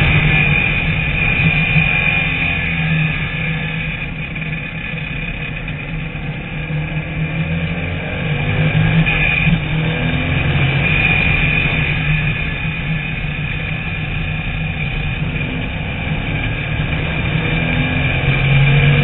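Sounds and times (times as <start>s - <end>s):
race car engine: 0.0s - 19.0s
steady high whine: 0.0s - 19.0s.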